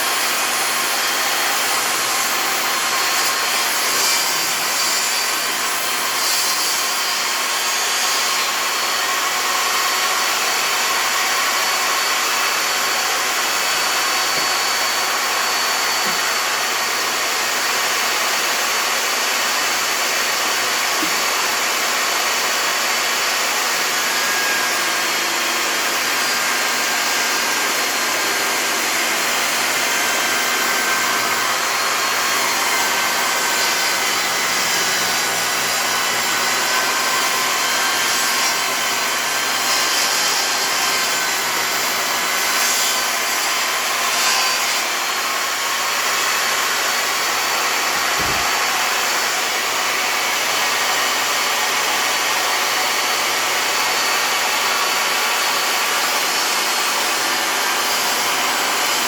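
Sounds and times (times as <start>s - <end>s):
table saw whirring: 0.0s - 59.0s.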